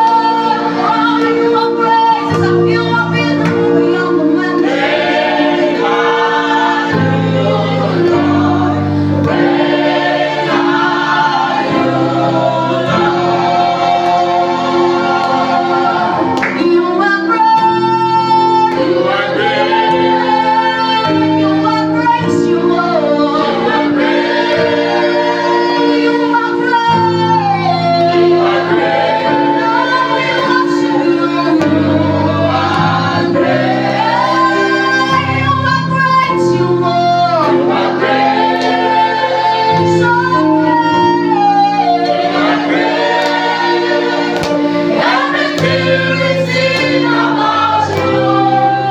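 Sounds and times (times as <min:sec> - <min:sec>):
group of singers: 0:00.0 - 0:48.9
sustained keyboard chords: 0:00.0 - 0:48.9.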